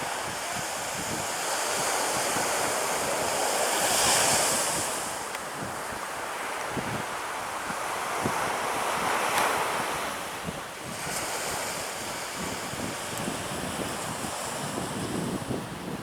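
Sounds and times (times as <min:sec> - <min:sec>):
surf washing on a beach: 0:00.0 - 0:16.0
wind buffeting microphone: 0:00.0 - 0:16.0.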